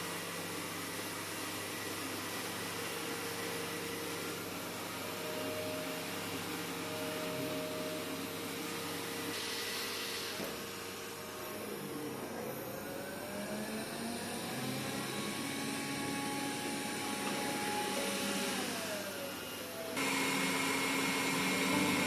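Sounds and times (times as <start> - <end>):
robot vacuum cleaner whirring: 0.0 - 22.0.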